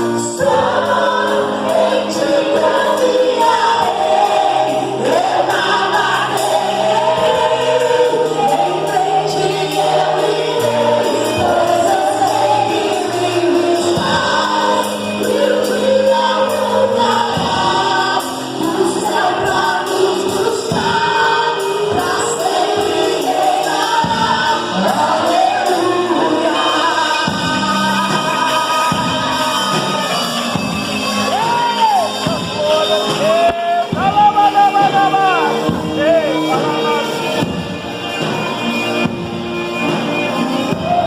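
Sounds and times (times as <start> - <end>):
gospel band playing: 0.0 - 41.0
group of voices singing: 0.0 - 41.0.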